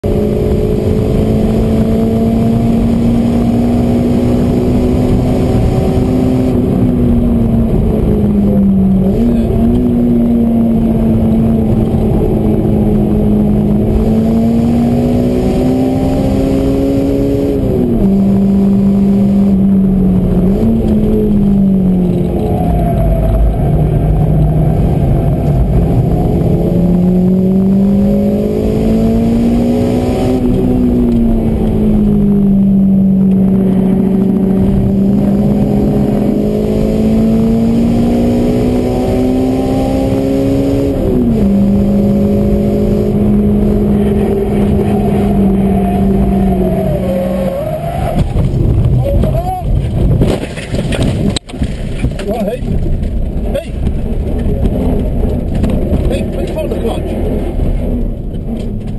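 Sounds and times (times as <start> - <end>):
car engine at high revs: 0.0 - 58.9
low road rumble: 0.0 - 58.9.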